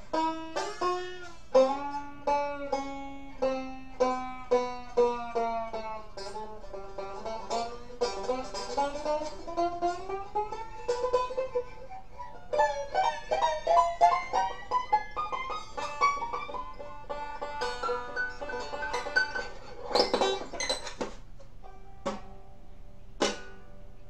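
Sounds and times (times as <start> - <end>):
slide banjo plucking: 0.0 - 24.0.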